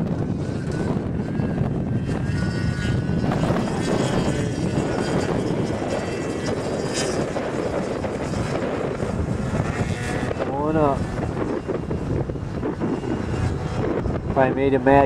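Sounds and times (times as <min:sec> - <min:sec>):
snowmobile engines running: 0:00.0 - 0:15.0.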